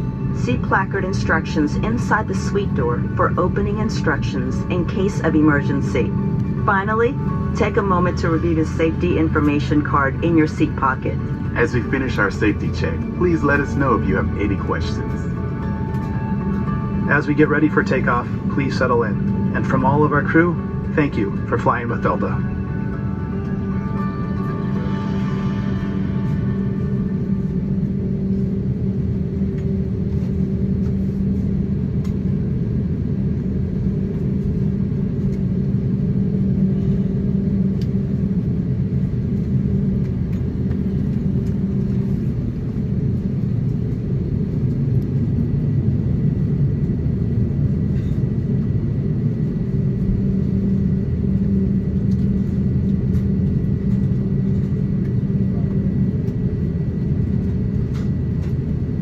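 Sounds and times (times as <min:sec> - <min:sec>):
aircraft engines rumbling: 0:00.0 - 0:59.0
low steady hum: 0:00.0 - 0:59.0.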